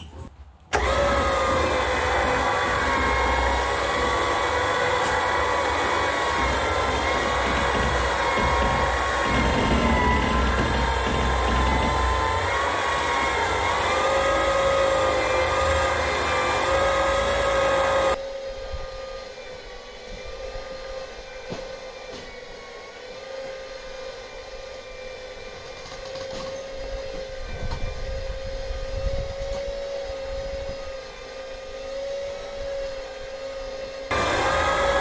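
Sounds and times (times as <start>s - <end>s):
electric winch whining: 0.7s - 35.0s.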